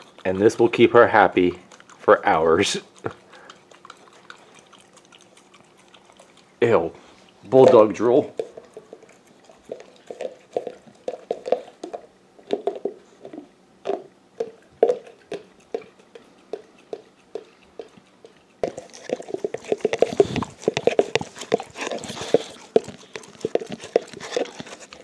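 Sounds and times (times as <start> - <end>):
dog licking plastic jar: 0.0 - 25.0.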